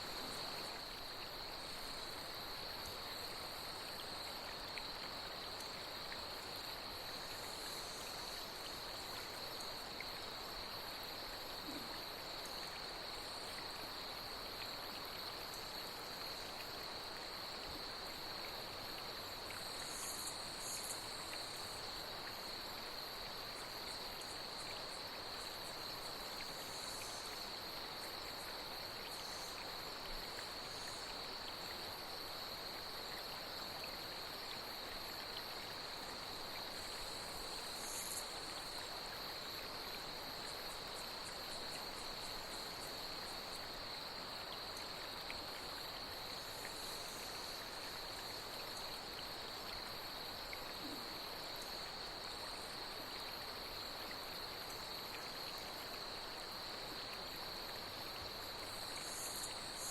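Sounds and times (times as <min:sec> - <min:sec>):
flowing water: 0:00.0 - 0:59.9
night insects trilling: 0:00.0 - 0:59.9.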